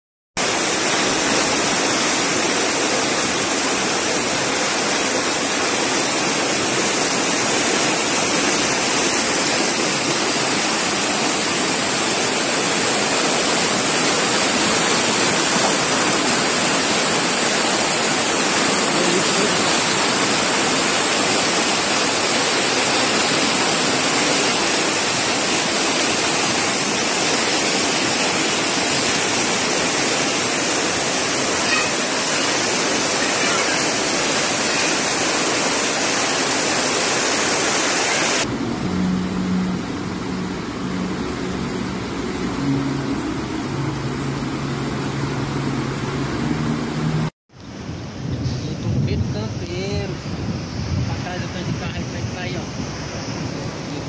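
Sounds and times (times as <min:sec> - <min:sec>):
floodwater rushing down street: 0:00.4 - 0:48.2.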